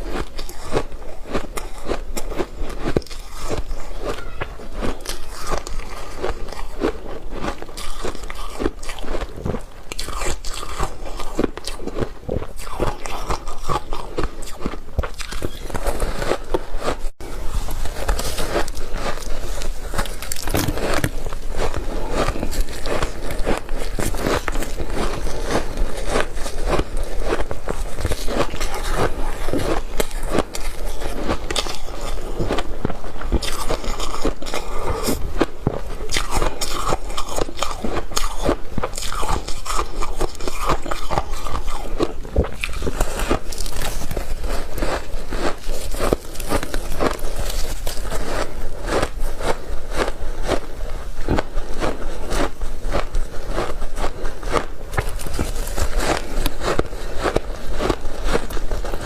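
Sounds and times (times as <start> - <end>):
ice crunching being chewed: 0.0 - 59.0.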